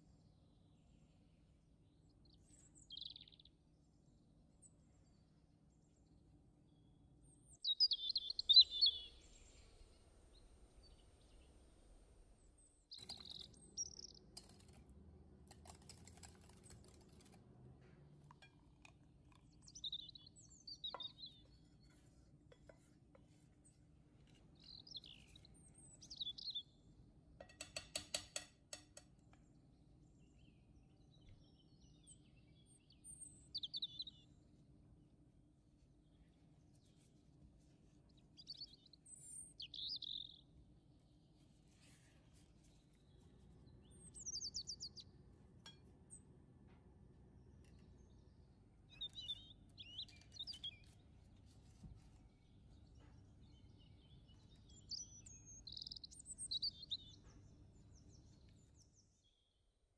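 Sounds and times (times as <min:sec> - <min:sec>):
small birds chirping: 0:00.1 - 0:17.4, 0:18.0 - 0:34.7, 0:35.8 - 0:59.7.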